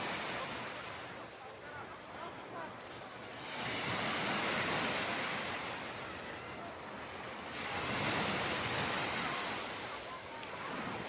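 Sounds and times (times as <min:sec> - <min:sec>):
ocean waves washing ashore: 0:00.0 - 0:11.0.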